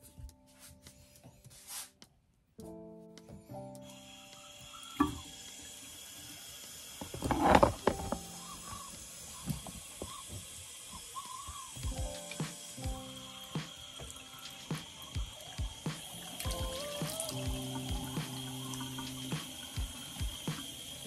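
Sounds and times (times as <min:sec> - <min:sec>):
faucet running into sink: 0:03.9 - 0:21.0.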